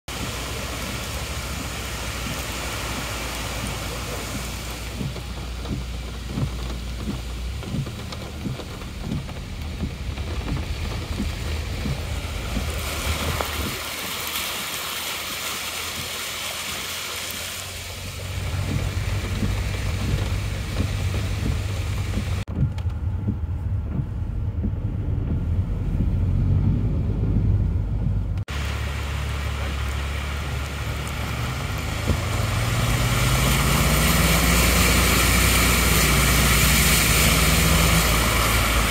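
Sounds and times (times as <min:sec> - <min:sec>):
car low rumble: 0:00.0 - 0:38.9
heavy rain rushing: 0:00.0 - 0:38.9
water swishing under tyres: 0:00.0 - 0:38.9.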